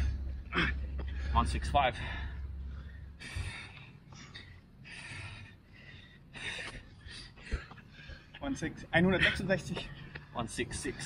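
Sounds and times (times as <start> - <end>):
man breathing heavily: 0.0 - 11.0.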